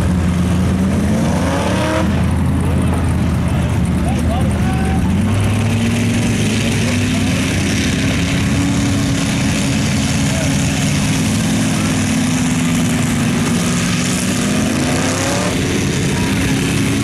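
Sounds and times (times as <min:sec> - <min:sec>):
tires churning through mud: 0:00.0 - 0:17.0
truck engine running hard: 0:00.0 - 0:17.0.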